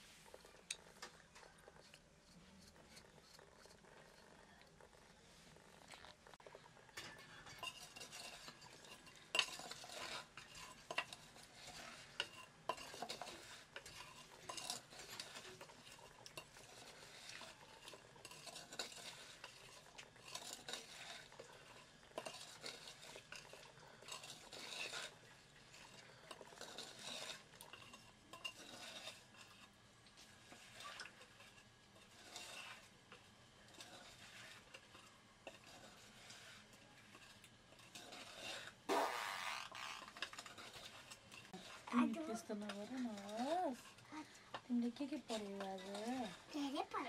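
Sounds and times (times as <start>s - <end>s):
metal spoon scraping clay pot: 0.0s - 47.0s.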